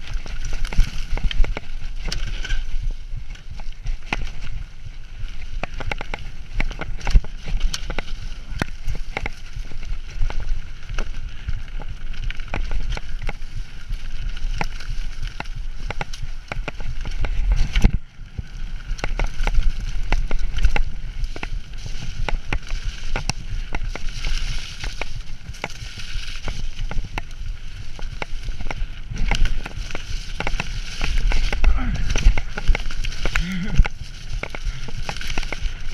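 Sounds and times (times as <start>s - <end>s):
bike rattling and knocking: 0.0s - 35.9s
tyres rumbling on dirt: 5.2s - 35.9s.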